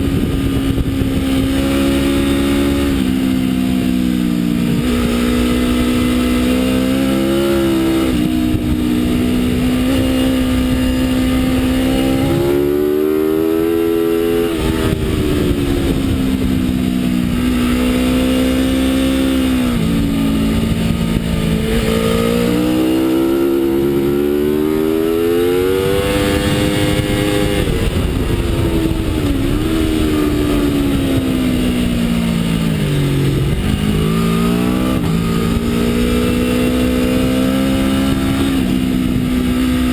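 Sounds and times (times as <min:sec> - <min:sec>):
motorcycle engine revving at speed: 0:00.0 - 0:39.9.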